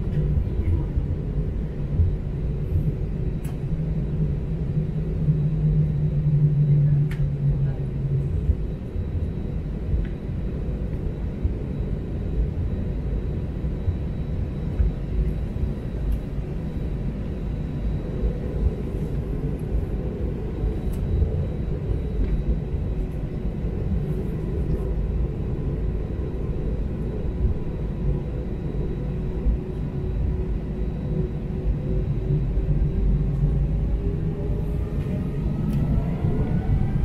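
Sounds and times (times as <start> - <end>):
faint jet engine whine: 0.0 - 37.0
low cabin rumble: 0.0 - 37.0.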